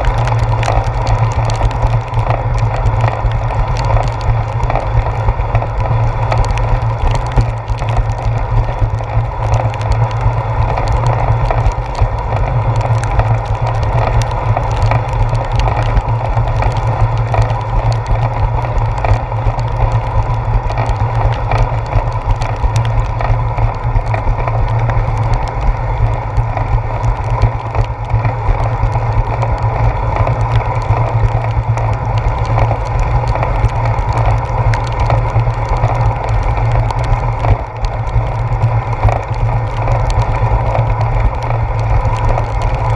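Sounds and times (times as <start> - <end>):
steady hum: 0.0 - 42.9
wind and road vibration rumble: 0.0 - 42.9.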